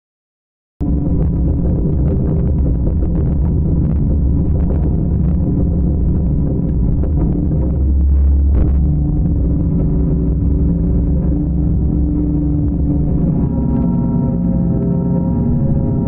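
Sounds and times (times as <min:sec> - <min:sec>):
excavator diesel engine rumbling: 0:00.8 - 0:16.0.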